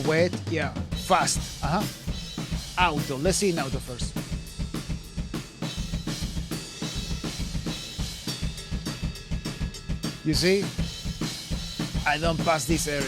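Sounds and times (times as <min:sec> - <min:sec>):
drum kit playing beat: 0:00.0 - 0:13.0.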